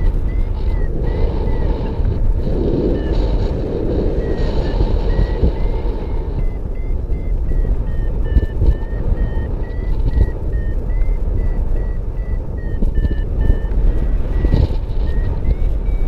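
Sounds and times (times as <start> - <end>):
variometer short electronic beeps: 0.0 - 16.0
wind rush on microphone: 0.0 - 16.0.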